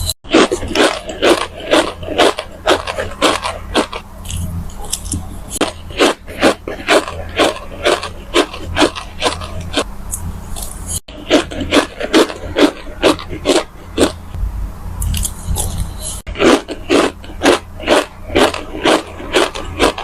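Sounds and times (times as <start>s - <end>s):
crunchy granules being chewed: 0.0s - 14.4s, 15.0s - 20.0s.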